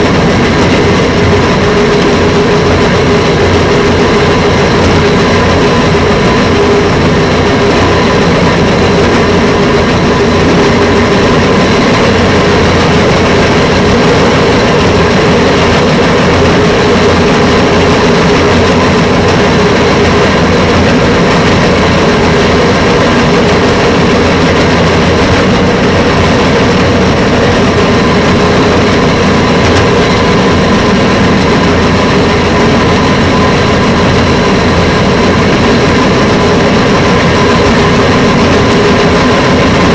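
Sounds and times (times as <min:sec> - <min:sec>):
rail vehicle engine drone: 0:00.0 - 0:39.9
train running noise: 0:00.0 - 0:39.9.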